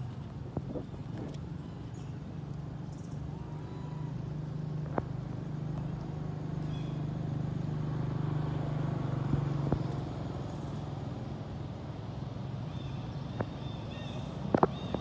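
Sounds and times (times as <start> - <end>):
motor engine droning: 0.0 - 15.0.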